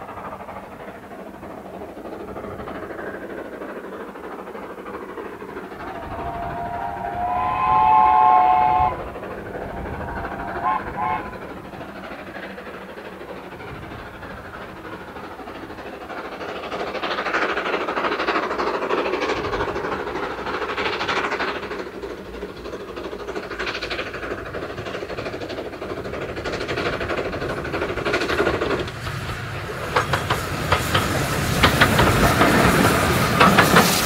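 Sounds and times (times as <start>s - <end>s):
steam train running: 0.0s - 34.0s.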